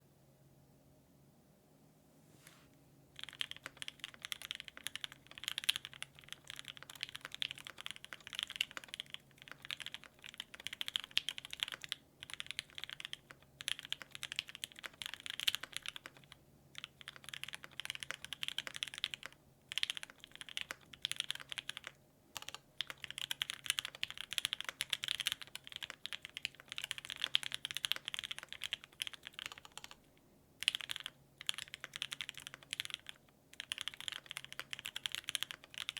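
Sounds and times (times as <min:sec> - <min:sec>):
mechanical keyboard typing: 0:03.2 - 0:30.0, 0:30.6 - 0:35.9.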